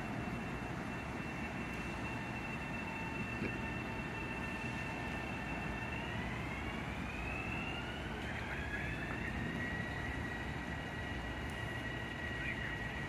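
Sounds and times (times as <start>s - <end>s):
train motors whining: 0.0s - 13.0s
train rumble: 0.0s - 13.0s.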